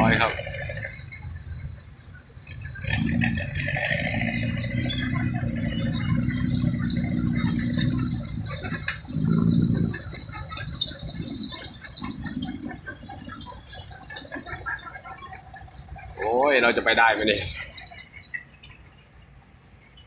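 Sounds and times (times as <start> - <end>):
heavy diesel engine running: 0.0 - 19.9
insects trilling: 0.0 - 20.0.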